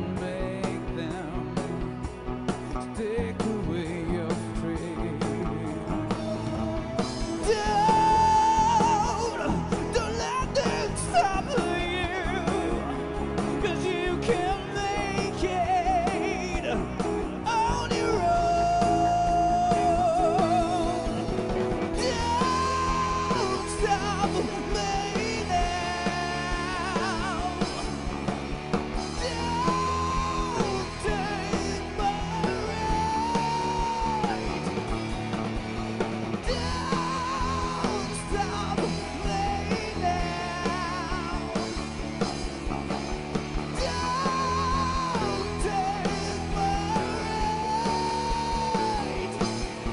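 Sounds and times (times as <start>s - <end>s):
live rock band playing: 0.0s - 49.9s
lead vocal with vibrato: 2.7s - 28.2s, 29.0s - 35.3s, 36.4s - 42.0s, 43.7s - 49.9s.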